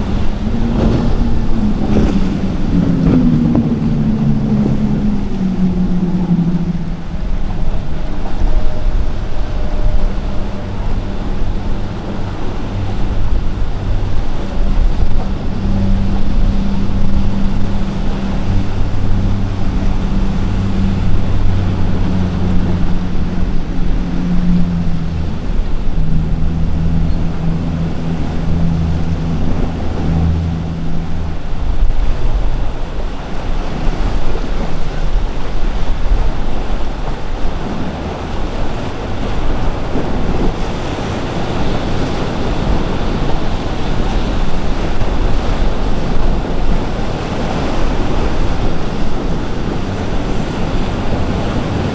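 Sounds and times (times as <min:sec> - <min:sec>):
boat engines humming: 0:00.0 - 0:51.9
rush of wake and waves: 0:00.0 - 0:51.9
wind buffeting microphone: 0:00.0 - 0:51.9.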